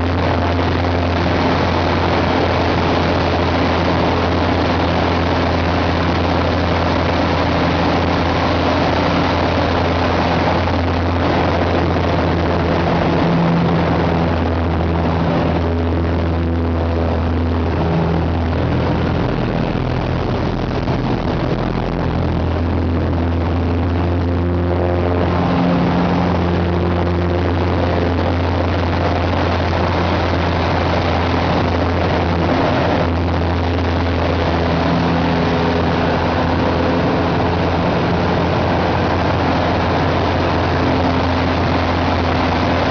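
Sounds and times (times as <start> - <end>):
aircraft engine and propeller: 0.0 - 42.9.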